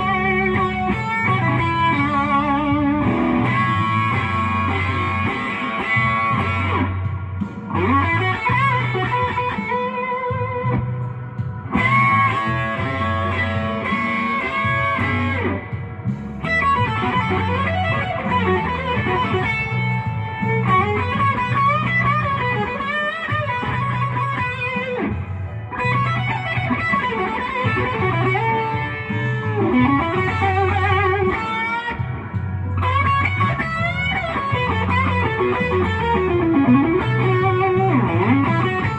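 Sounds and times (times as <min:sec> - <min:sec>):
repeating low bass line: 0:00.0 - 0:09.7, 0:10.4 - 0:38.9
electric guitar blues lead: 0:00.0 - 0:38.9.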